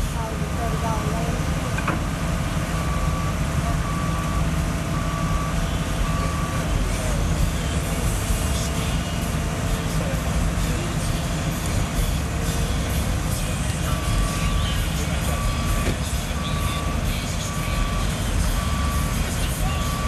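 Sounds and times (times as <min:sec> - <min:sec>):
diesel excavator engine rumbling: 0:00.0 - 0:20.0
backup alarm beeping: 0:00.2 - 0:09.9, 0:12.1 - 0:20.0.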